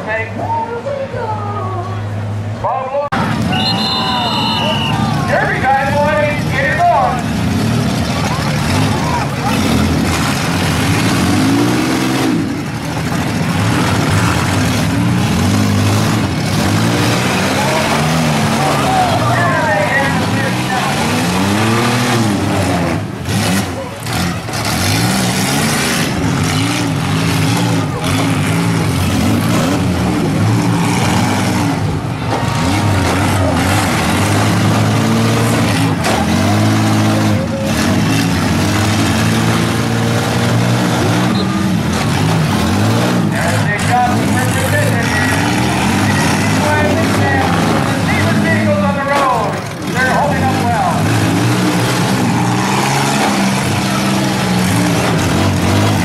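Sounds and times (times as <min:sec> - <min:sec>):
minivan engines revving: 0:00.0 - 0:56.0.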